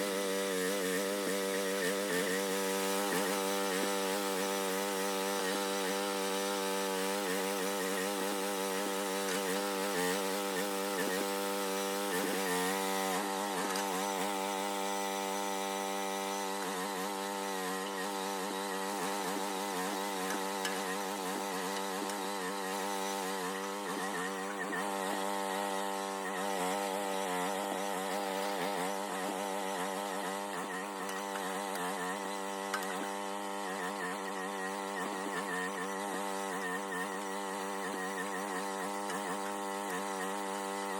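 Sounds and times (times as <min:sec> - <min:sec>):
mini excavator engine running: 0:00.0 - 0:40.9.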